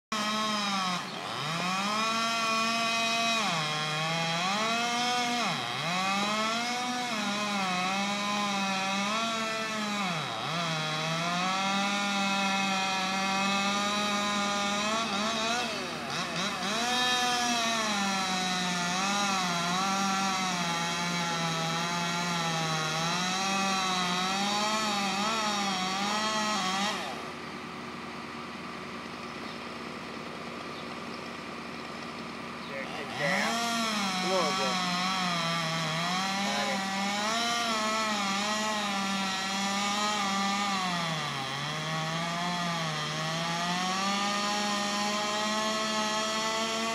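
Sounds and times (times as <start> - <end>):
chainsaw cutting wood: 0.1 - 46.9
engine hum: 0.1 - 46.9.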